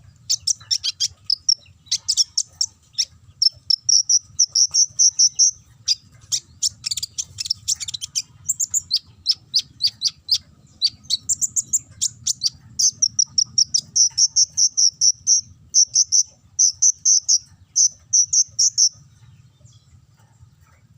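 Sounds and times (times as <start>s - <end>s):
bird chirping in trills: 0.0s - 20.9s.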